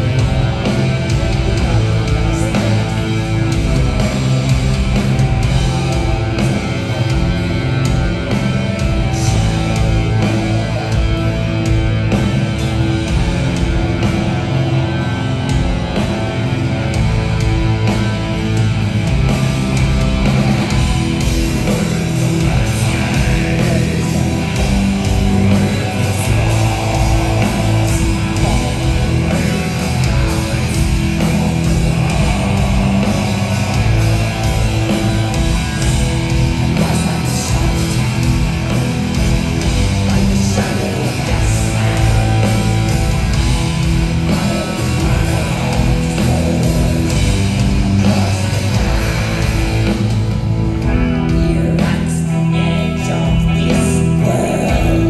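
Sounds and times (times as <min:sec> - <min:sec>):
heavy metal band playing: 0:00.0 - 0:55.0.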